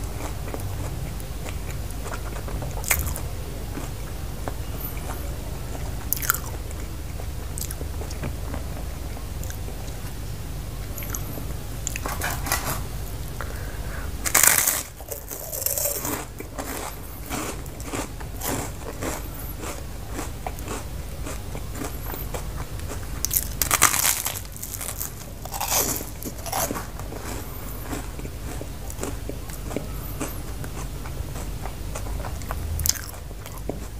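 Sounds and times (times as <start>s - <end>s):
biting and chewing bread: 0.0s - 10.2s, 10.9s - 33.9s
steady low hum: 0.0s - 33.9s.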